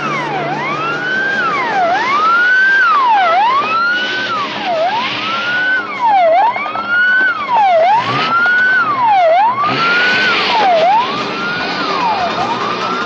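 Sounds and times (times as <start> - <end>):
car engine and tyre noise: 0.0 - 13.0
police siren wailing: 0.0 - 13.0.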